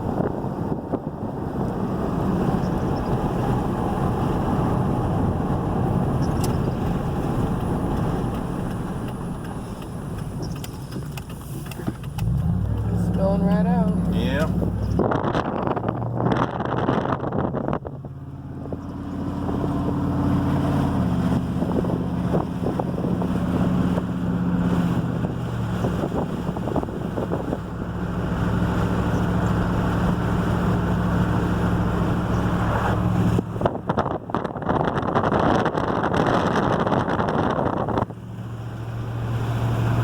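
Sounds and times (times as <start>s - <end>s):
road noise rushing: 0.0s - 40.0s
vehicle engine hum: 0.0s - 40.0s.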